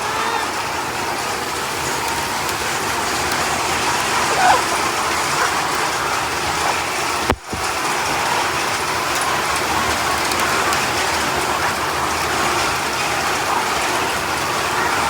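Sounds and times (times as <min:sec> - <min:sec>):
chickens pecking at feed: 0:00.0 - 0:15.0.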